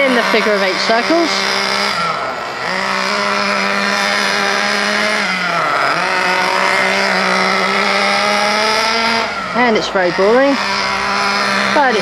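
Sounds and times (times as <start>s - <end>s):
model buggy nitro engine running: 0.0s - 12.0s.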